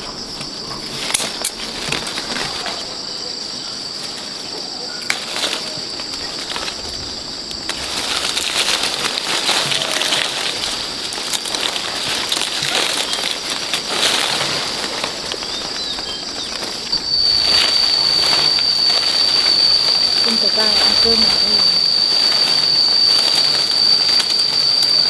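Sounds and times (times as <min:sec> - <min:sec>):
high insect drone: 0:00.0 - 0:25.0
tree leaves and branches rustling: 0:00.0 - 0:25.0.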